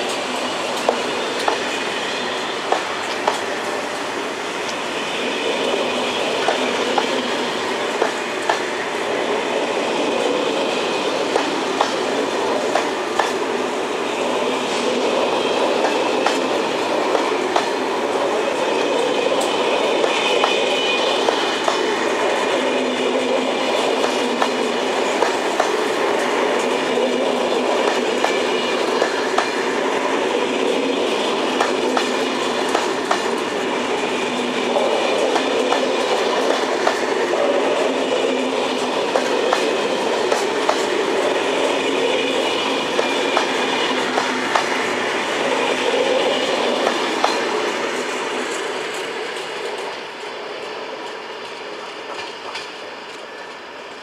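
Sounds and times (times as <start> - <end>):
train coaches rumbling: 0.0 - 54.0.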